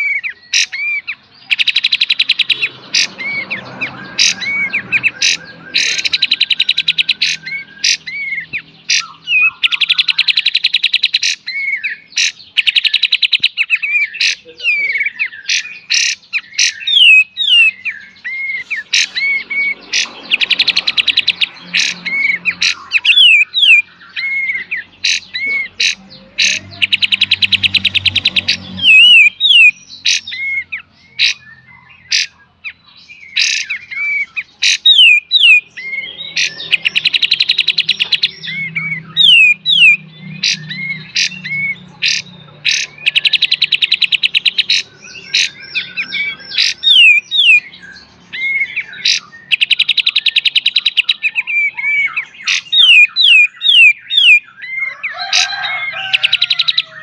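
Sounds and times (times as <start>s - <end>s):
bulbul singing: 0.0s - 57.0s.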